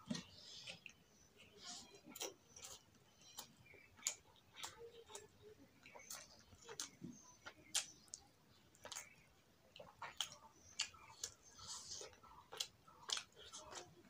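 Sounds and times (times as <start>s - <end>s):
chewing and lip smacking: 0.0s - 14.0s.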